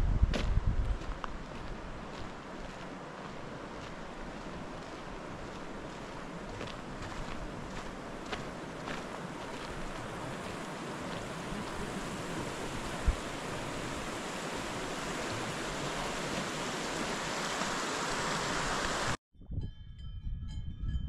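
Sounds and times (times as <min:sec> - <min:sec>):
flowing water rushing: 0:01.2 - 0:19.2.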